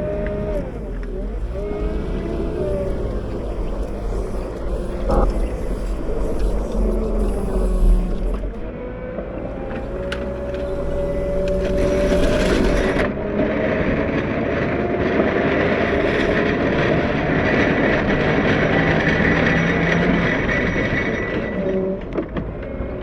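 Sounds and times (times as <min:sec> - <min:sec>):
high steady whine: 0:00.0 - 0:21.7
wheel loader diesel engine: 0:00.0 - 0:23.0.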